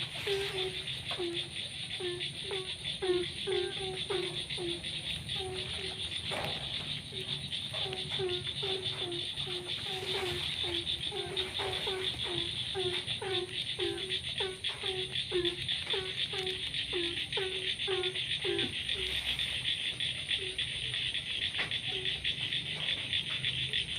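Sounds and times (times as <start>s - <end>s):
frog croaking: 0.0s - 23.9s
high-pitched insect chorus: 0.0s - 23.9s.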